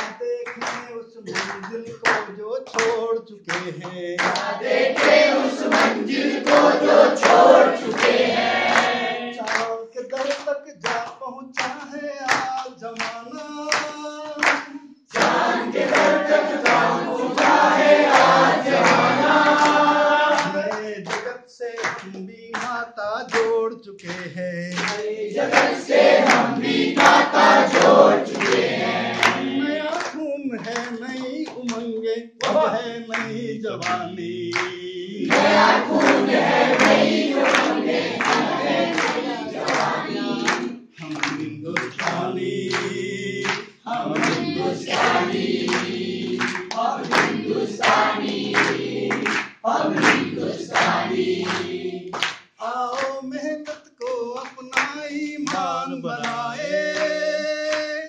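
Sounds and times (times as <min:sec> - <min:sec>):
group singing: 0:00.0 - 0:53.4, 0:54.7 - 0:58.0
rhythmic hand clapping: 0:00.0 - 0:58.0.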